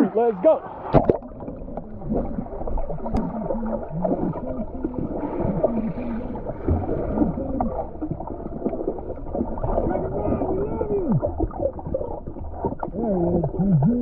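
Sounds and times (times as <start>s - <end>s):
water bubbling underwater: 0.6s - 14.0s.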